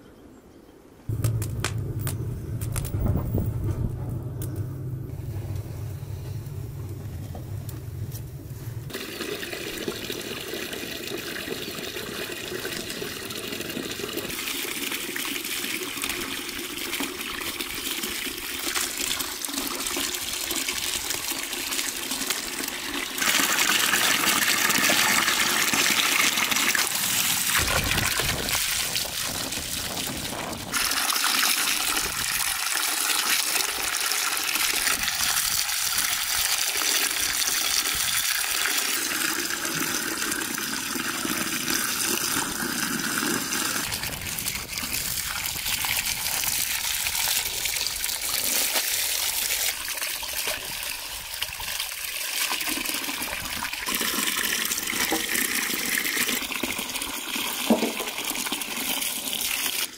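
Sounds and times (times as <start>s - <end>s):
water pouring into metal basin: 8.9s - 59.9s.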